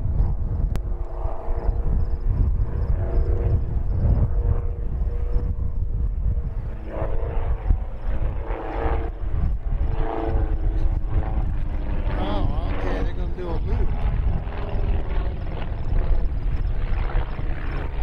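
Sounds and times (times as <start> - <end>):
heavy low rumble: 0.0 - 18.0
light aircraft engines droning: 0.0 - 18.0.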